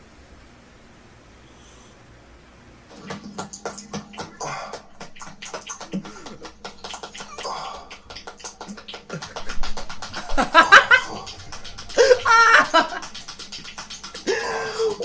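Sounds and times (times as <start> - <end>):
wet squelching and slapping: 2.9 - 15.0.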